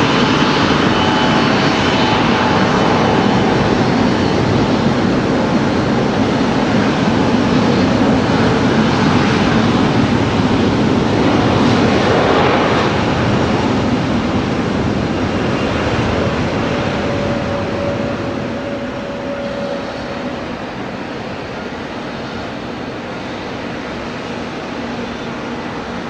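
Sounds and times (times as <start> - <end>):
airliner engine noise: 0.0 - 26.0.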